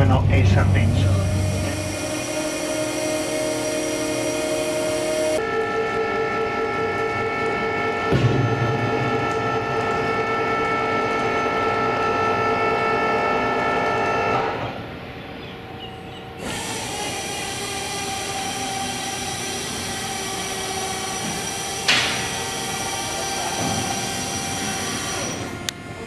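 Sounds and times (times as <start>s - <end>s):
mechanical drone with held tones: 0.0s - 26.0s.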